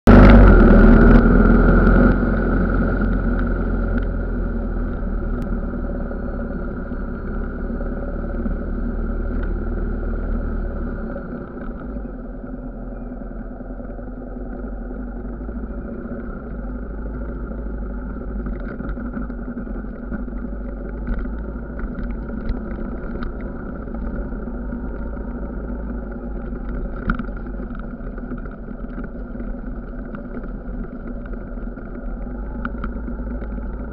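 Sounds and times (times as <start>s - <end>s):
trail motorcycle engine running: 0.0s - 33.9s.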